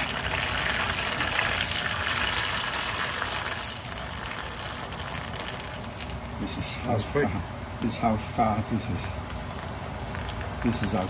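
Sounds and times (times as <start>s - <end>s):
noodles crackling in hot oil: 0.0s - 7.9s, 9.3s - 11.0s.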